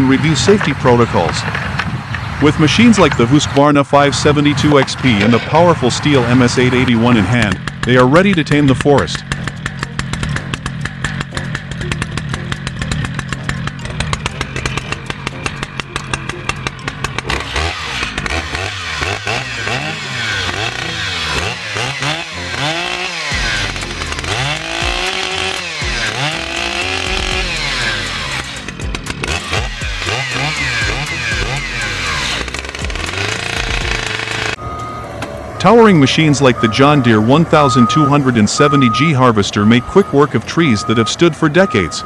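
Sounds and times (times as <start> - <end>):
chainsaw revving: 0.0 - 42.0.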